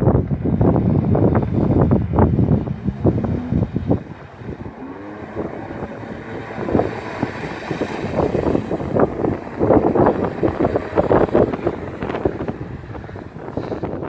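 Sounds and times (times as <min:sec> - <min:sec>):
jet ski engine running: 0:00.0 - 0:14.0
wind buffeting microphone: 0:00.0 - 0:14.0.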